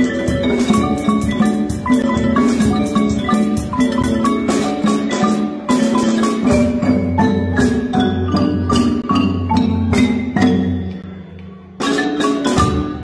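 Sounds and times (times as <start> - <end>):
marimbas and xylophones playing: 0.0 - 13.0.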